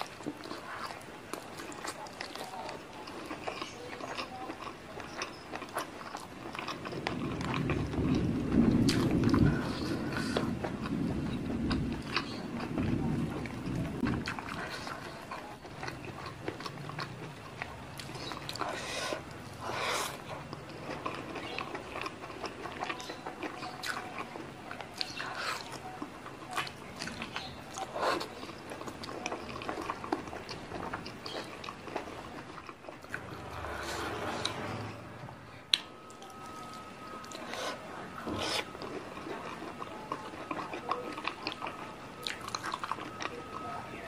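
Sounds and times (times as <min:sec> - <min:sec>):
wet chewing and biting: 0:00.0 - 0:34.9, 0:35.7 - 0:43.8.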